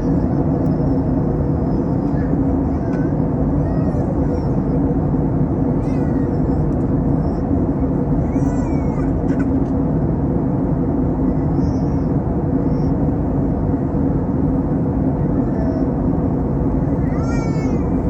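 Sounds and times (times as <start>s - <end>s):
aircraft engine and airflow drone: 0.0s - 18.0s.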